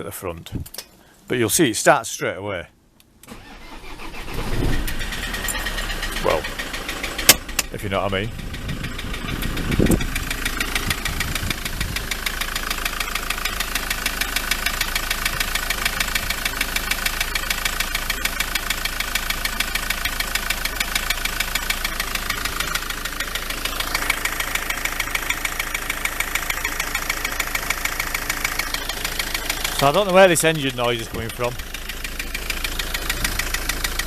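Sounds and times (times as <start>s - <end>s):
diesel engine idling: 3.3s - 34.0s.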